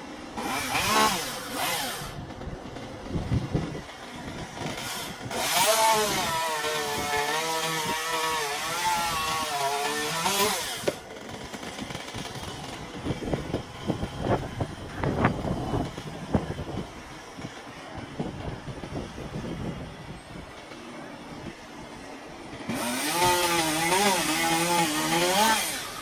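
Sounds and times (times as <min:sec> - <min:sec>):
chainsaw cutting at full throttle: 0:00.0 - 0:26.0.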